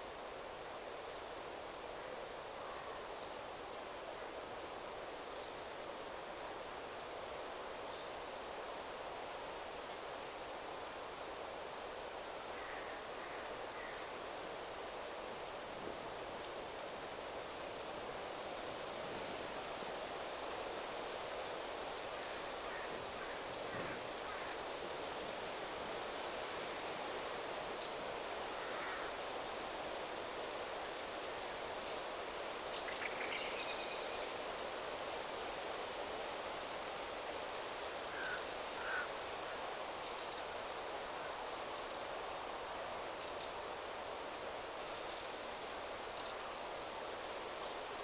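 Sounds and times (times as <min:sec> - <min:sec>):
wind rustling through trees: 0:00.0 - 0:48.0.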